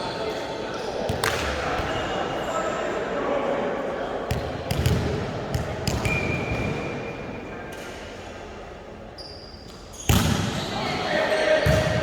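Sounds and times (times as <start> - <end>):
echoing sports hall ambience: 0.0 - 12.0.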